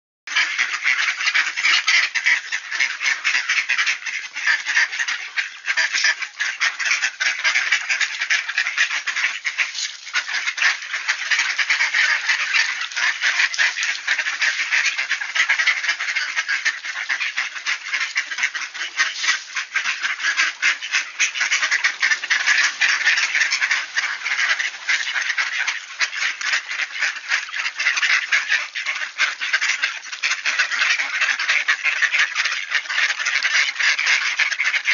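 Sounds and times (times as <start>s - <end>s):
ducks quacking: 0.3s - 34.9s.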